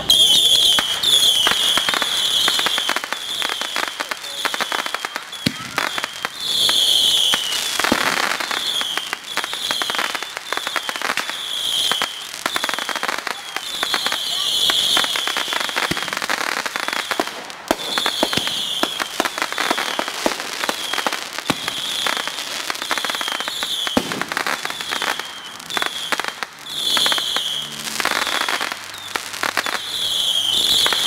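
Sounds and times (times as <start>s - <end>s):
fireworks popping and crackling: 0.0s - 31.0s
high-pitched firework hiss: 0.0s - 31.0s.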